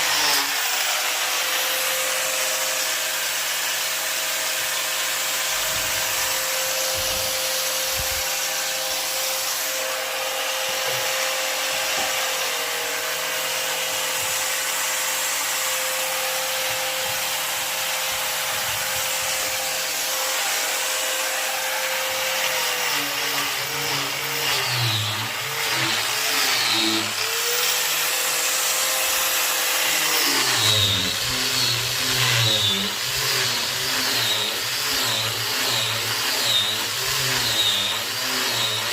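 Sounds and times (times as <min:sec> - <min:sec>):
power tool motor cutting wood: 0:00.0 - 0:38.9.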